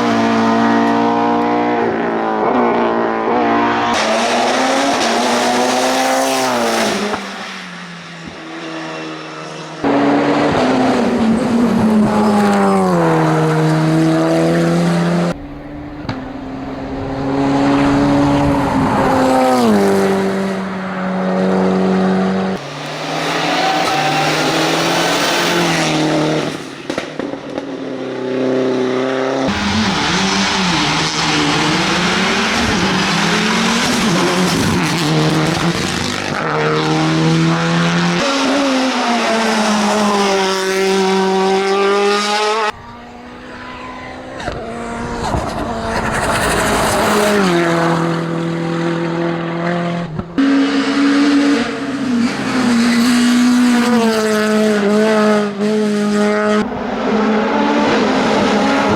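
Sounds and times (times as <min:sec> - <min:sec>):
racing car engines at full throttle: 0:00.0 - 0:58.9.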